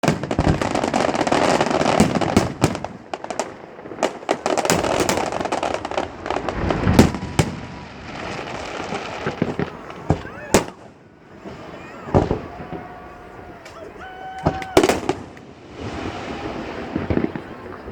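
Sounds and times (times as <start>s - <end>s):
deep firework boom: 0.0s - 13.6s, 14.4s - 17.9s
fireworks crackling: 0.0s - 17.9s
fireworks sharp bangs: 0.0s - 17.9s.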